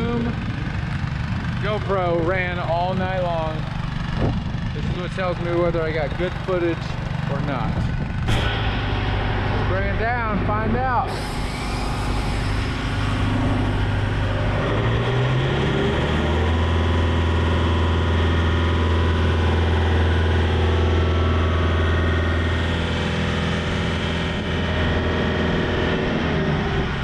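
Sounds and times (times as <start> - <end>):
heavy diesel engine revving: 0.0 - 27.0.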